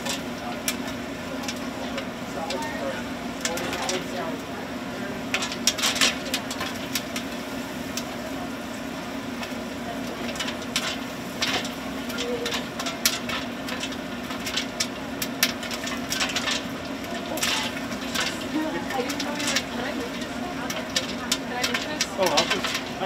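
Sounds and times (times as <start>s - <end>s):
sharp clicks and crackles: 0.0s - 4.5s, 5.2s - 8.2s, 9.3s - 23.0s
mechanical hum: 0.0s - 23.0s.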